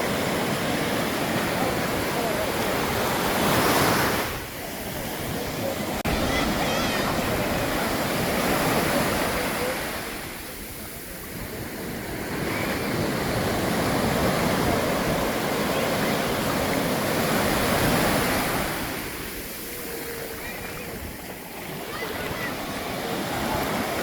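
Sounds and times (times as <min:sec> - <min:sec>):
waves breaking on shore: 0:00.0 - 0:24.0.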